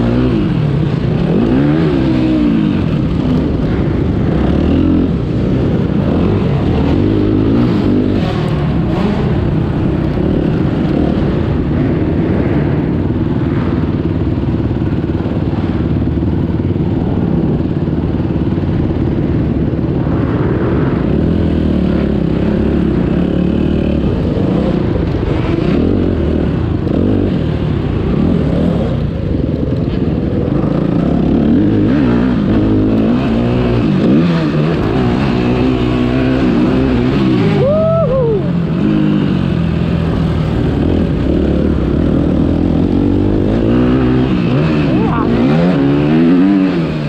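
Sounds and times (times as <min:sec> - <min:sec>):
motocross bike engine revving: 0:00.0 - 0:16.2, 0:17.2 - 0:47.0.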